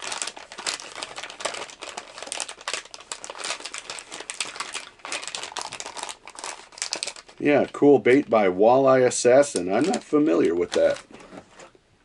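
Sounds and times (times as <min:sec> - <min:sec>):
plastic bag crinkling: 0:00.0 - 0:08.4, 0:09.1 - 0:11.7.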